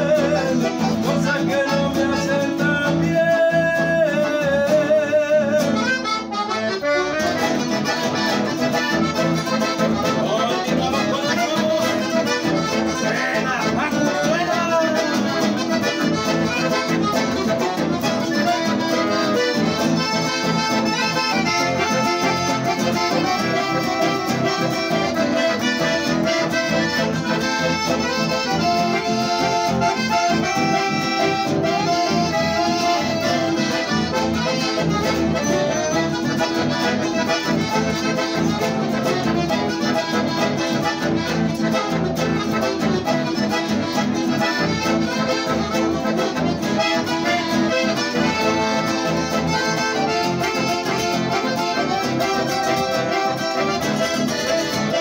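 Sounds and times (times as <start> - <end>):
accordions playing melody: 0.0 - 55.0
strummed acoustic guitars: 0.0 - 55.0.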